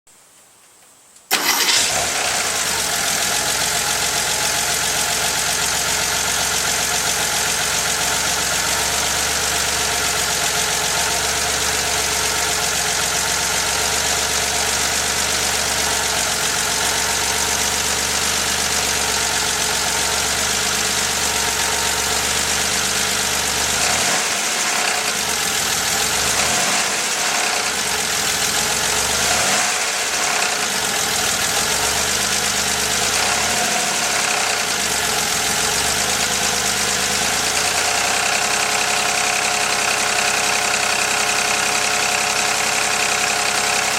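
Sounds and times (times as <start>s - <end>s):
car engine running with knocking: 1.3s - 43.9s.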